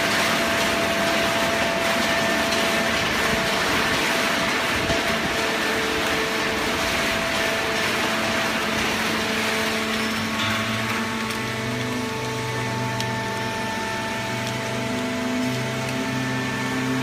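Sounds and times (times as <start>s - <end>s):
baling press hum and whine: 0.0s - 17.0s
deeper machine hum: 0.0s - 17.0s.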